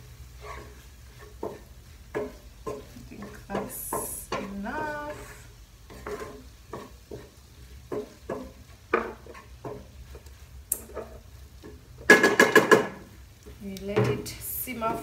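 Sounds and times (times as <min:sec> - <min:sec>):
light sizzle of frying: 0:00.0 - 0:15.0
wooden spoon scraping frying pan: 0:00.0 - 0:15.0.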